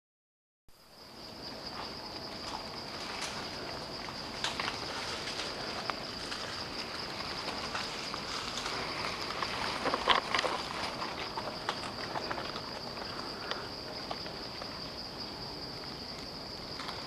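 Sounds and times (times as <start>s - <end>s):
high-pitched insect drone: 0.8s - 17.0s
rustling and crackling: 1.8s - 17.0s.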